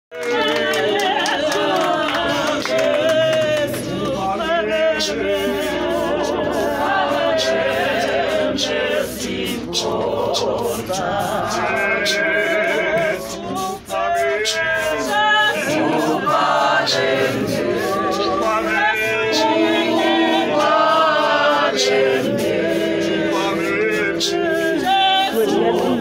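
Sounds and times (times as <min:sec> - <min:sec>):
congregation singing unaccompanied: 0:00.1 - 0:26.0.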